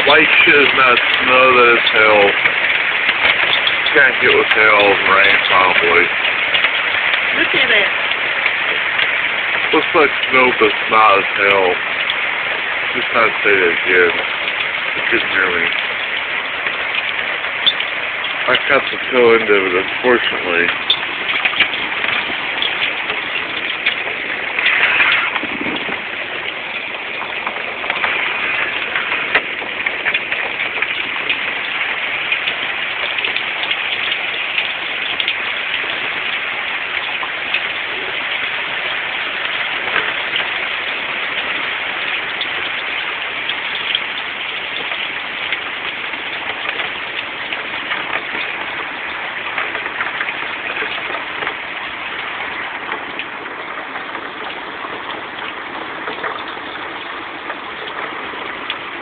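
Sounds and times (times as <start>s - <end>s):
hail pattering on ground: 0.0s - 59.0s.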